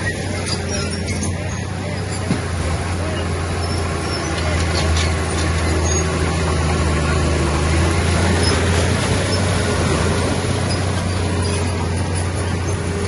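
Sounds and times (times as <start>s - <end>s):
diesel machinery rumbling: 0.0s - 13.0s.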